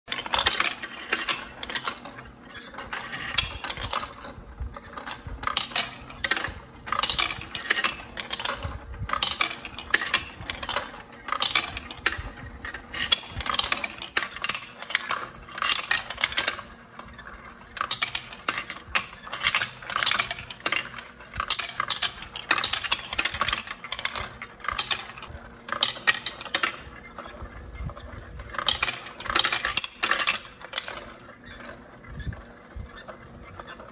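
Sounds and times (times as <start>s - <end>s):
plastic marbles clattering and rolling: 0.1s - 33.9s.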